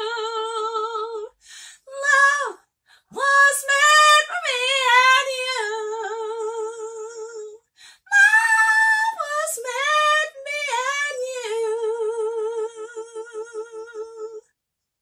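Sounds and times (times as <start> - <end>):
woman singing jazz unaccompanied: 0.0 - 14.4.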